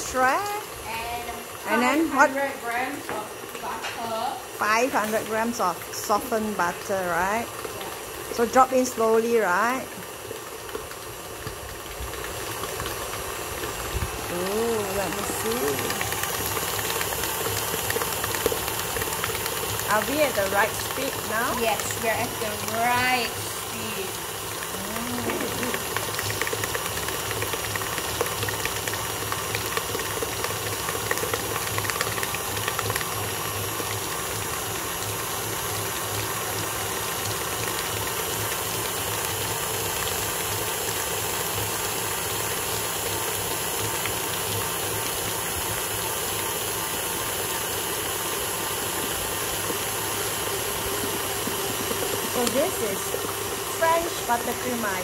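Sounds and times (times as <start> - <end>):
stand mixer whirring: 0.0 - 3.8, 4.4 - 55.0.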